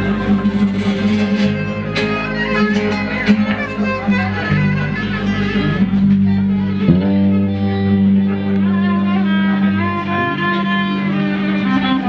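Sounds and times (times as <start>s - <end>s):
low held accompaniment: 0.0s - 12.0s
violin melody: 0.0s - 12.0s.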